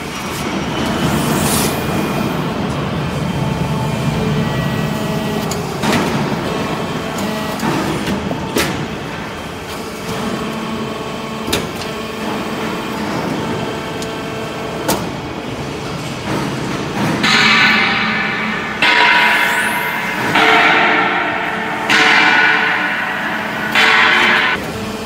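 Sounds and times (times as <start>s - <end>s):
hydraulic unit humming: 0.0s - 25.0s.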